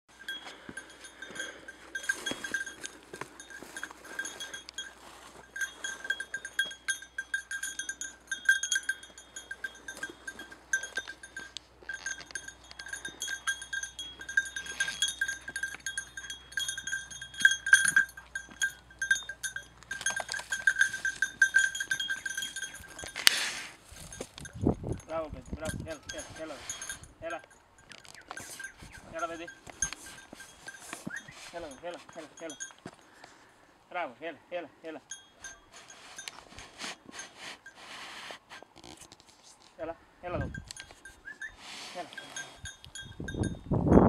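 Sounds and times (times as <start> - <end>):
dog collar bell jingling: 0.1 - 23.4, 24.0 - 33.2, 35.0 - 36.6, 40.4 - 44.0.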